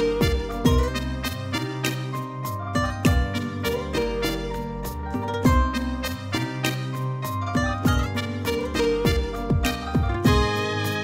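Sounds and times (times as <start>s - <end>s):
plucked strings over a beat: 0.0s - 11.0s.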